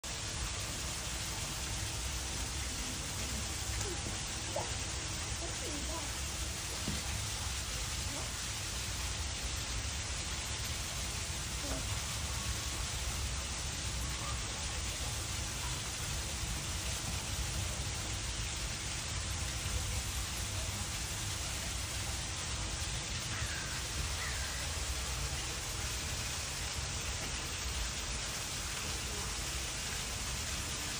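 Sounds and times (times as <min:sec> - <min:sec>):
steady hissing noise: 0:00.0 - 0:30.9.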